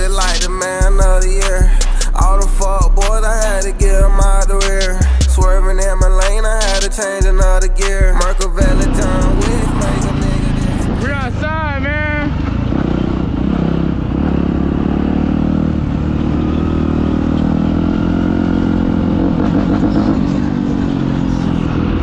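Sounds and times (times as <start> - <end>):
dirt bike engines running: 0.0 - 22.0.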